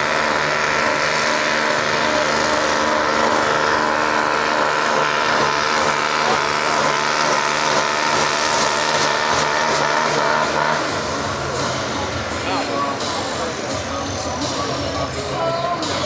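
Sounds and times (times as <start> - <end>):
tractor diesel engine running hard: 0.0 - 16.0.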